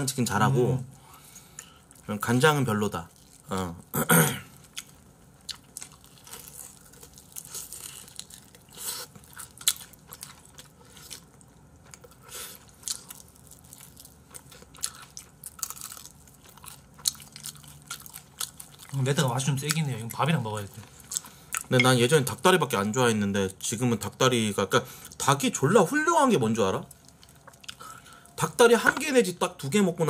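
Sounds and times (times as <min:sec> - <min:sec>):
chewing fried chicken: 0:01.0 - 0:03.9, 0:04.5 - 0:22.4, 0:23.1 - 0:28.5.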